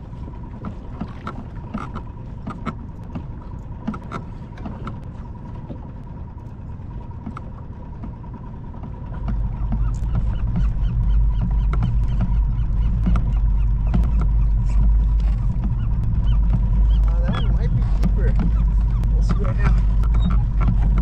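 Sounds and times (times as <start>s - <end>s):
rumble of wind and water: 0.0s - 21.0s.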